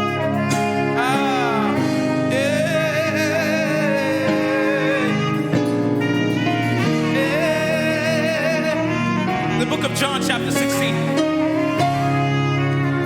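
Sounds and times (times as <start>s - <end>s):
lead melody with vibrato: 0.0s - 13.0s
sustained keyboard chords: 0.0s - 13.0s.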